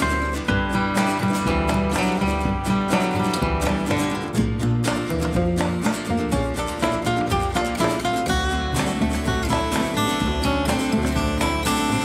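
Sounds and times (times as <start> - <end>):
acoustic guitar strumming: 0.0 - 12.0
bass line: 0.0 - 12.0.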